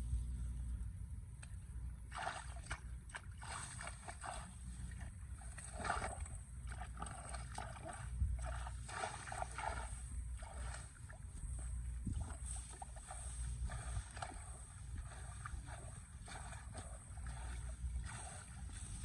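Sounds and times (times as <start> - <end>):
steady low rumble: 0.0 - 19.0
water and mud splashing: 2.0 - 19.0.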